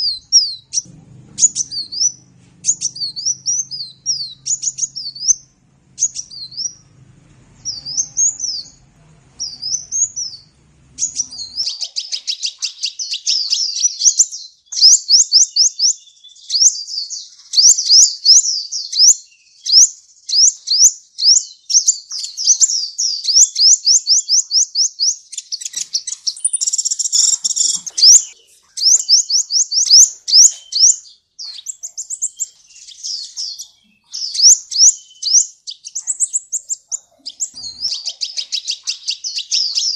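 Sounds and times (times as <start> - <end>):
sunbird chirping song: 0.0 - 39.9.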